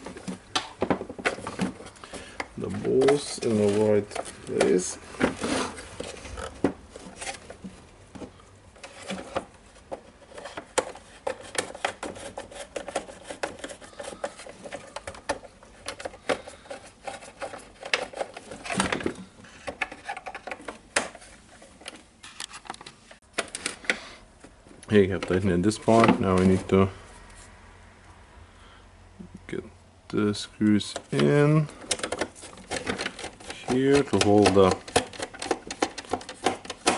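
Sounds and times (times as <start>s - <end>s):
plastic parts clicking and knocking: 0.0s - 26.7s, 30.8s - 36.9s.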